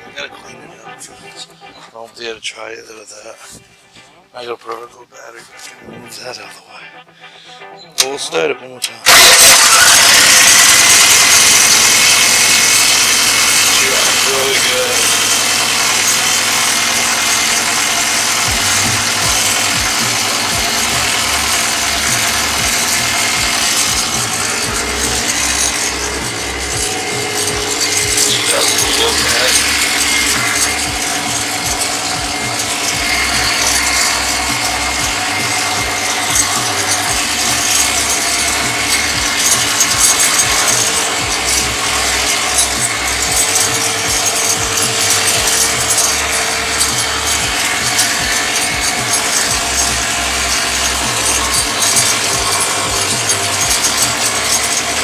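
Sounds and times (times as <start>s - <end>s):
old engine running with clatter: 9.0s - 55.0s.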